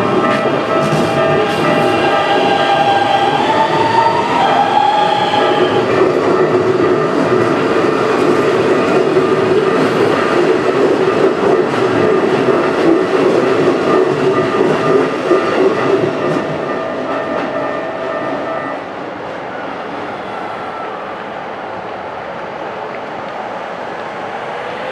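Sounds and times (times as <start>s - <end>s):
electric train running past: 0.0s - 24.9s.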